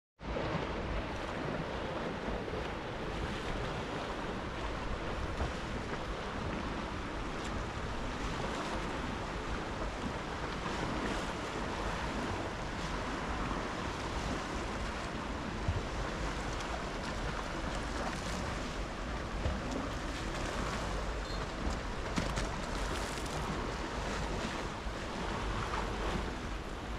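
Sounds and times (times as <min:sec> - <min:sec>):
choppy sea washing against concrete: 0:00.2 - 0:26.9
wind rumbling on microphone: 0:00.2 - 0:26.9.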